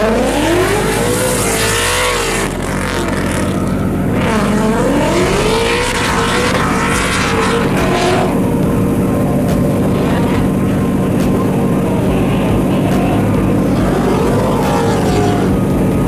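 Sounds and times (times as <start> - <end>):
background engine noise: 0.0 - 16.0
car engine revving: 0.0 - 16.0.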